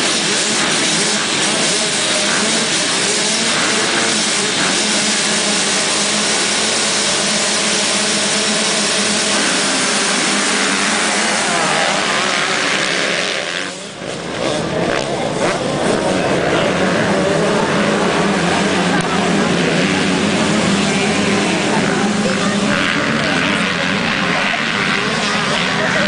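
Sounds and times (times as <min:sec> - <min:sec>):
many motorbike engines revving: 0:00.0 - 0:26.0.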